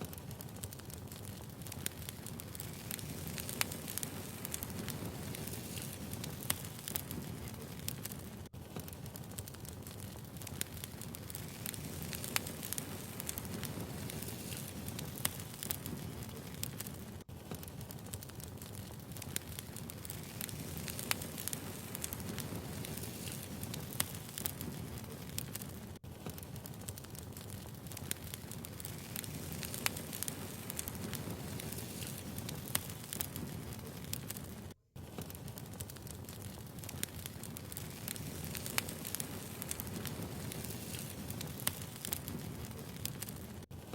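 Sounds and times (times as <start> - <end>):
firewood crackling and popping: 0.0 - 43.9
low rumble of flames: 0.0 - 43.9.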